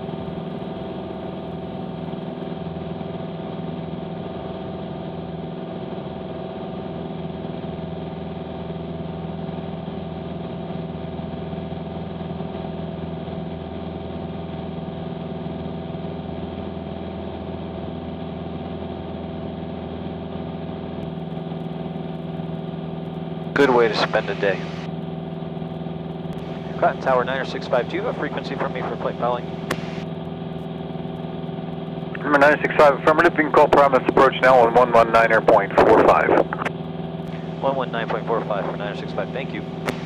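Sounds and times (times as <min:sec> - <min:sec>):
aircraft engine drone in cabin: 0:00.0 - 0:40.0.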